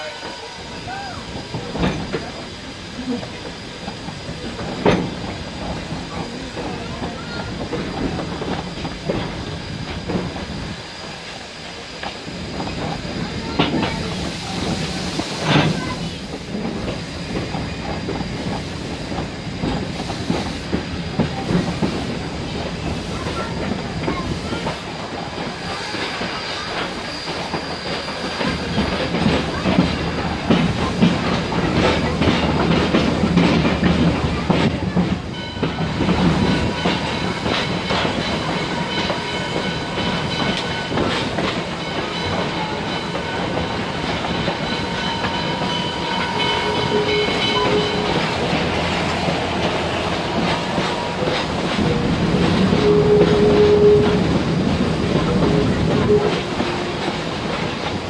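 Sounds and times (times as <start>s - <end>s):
train rumble: 0.0s - 58.0s
train wheels clanking over rail joints: 0.1s - 58.0s.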